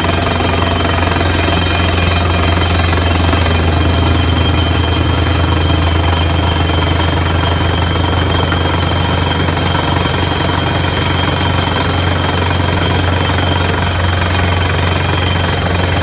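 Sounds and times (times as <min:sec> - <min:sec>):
drill hammering rapidly: 0:00.0 - 0:16.0
engine and compressor drone: 0:00.0 - 0:16.0.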